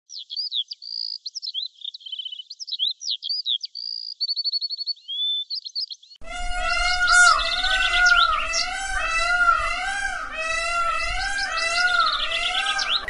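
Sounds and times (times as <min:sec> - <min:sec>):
songbird singing: 0:00.1 - 0:13.0.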